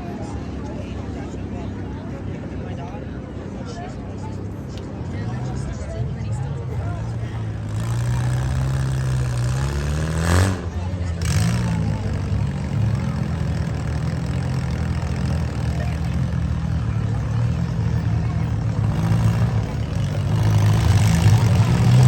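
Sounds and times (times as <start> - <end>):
car engines idling: 0.0 - 22.0.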